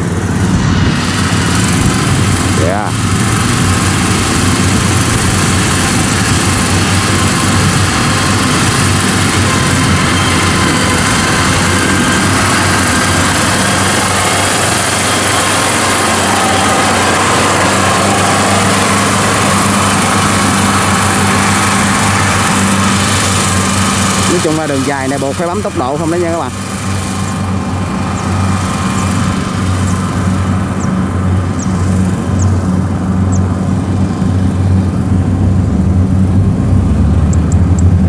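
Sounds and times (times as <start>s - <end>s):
loud engine drone: 0.0s - 38.0s.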